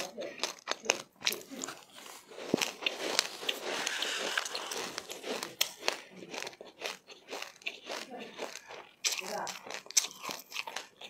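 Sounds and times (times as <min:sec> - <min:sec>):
chewing crunchy seeds: 0:00.0 - 0:11.0.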